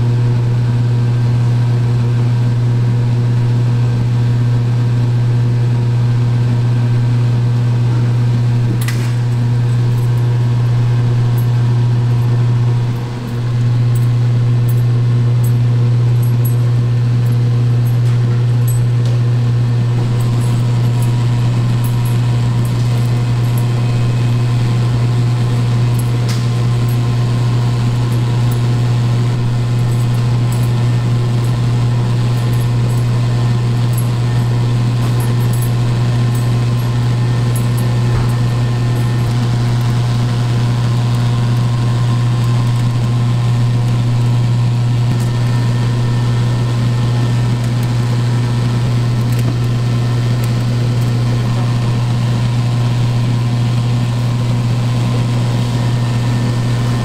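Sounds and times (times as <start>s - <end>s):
kitchen machinery humming: 0.0s - 57.0s.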